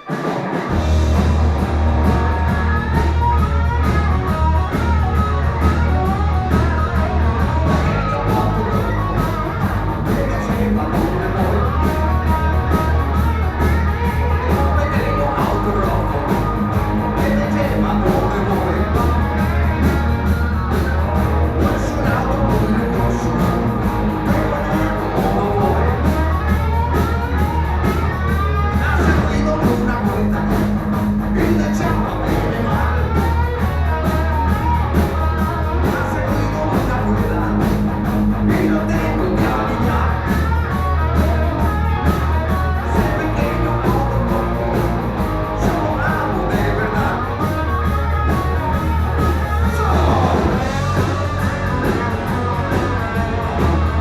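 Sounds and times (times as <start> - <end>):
rock band playing live: 0.0 - 54.0
person singing: 6.8 - 37.8, 38.4 - 54.0.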